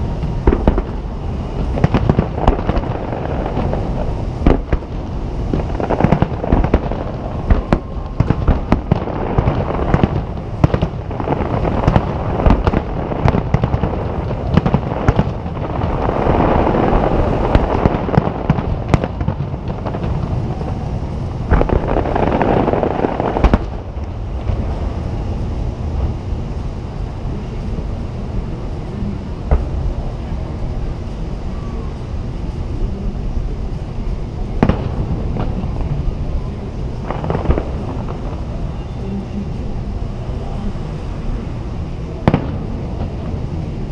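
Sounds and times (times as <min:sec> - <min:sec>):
firework bangs: 0:00.0 - 0:43.9
firework crackling: 0:00.0 - 0:43.9.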